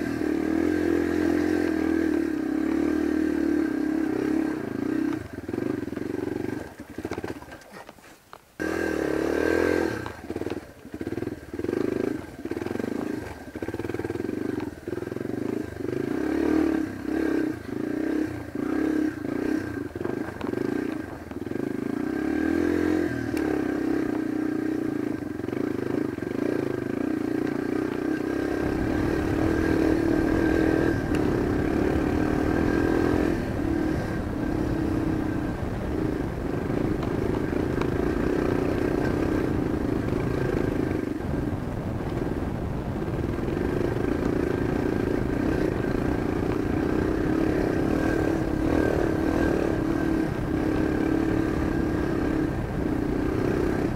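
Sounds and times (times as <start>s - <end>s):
dirt bike engine revving: 0.0s - 7.6s, 8.6s - 53.9s.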